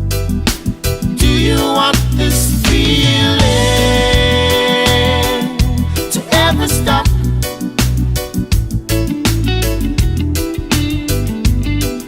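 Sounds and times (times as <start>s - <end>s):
song with bass line: 0.0s - 12.0s.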